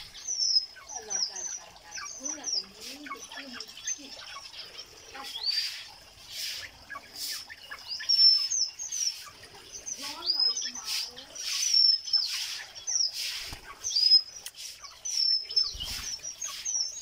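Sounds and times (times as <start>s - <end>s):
birds chirping and twittering: 0.0s - 17.0s.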